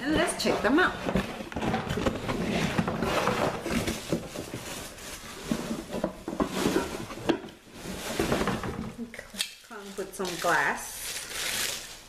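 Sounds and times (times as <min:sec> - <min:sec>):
cardboard and packaging rustling: 0:00.0 - 0:12.0.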